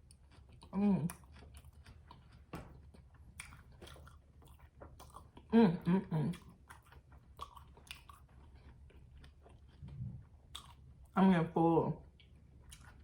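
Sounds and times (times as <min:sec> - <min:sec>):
wet chewing and biting: 0:00.0 - 0:05.5, 0:06.3 - 0:11.2, 0:12.1 - 0:13.0.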